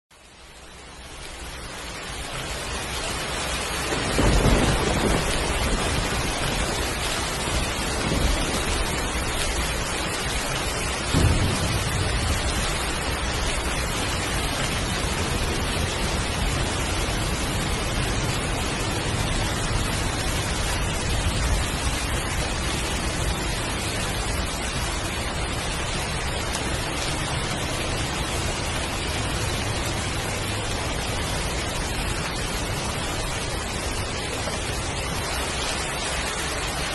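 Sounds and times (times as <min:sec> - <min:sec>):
heavy rain pouring: 0:00.1 - 0:36.9
thunder rolling: 0:03.8 - 0:34.0.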